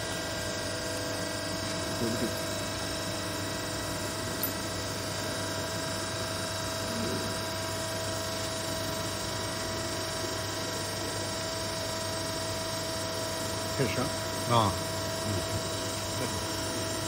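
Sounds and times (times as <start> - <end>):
machine humming idle: 0.0 - 17.0.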